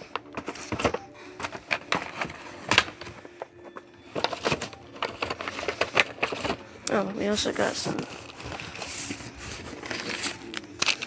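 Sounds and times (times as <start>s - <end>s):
packages knocking and clicking: 0.0s - 11.0s
packaging rustling: 0.0s - 11.0s.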